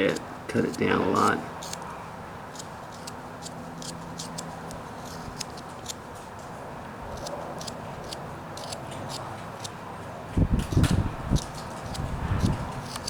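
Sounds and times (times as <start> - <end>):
knife scraping wood: 0.0 - 1.9, 2.5 - 6.3, 7.2 - 9.7, 10.7 - 13.0.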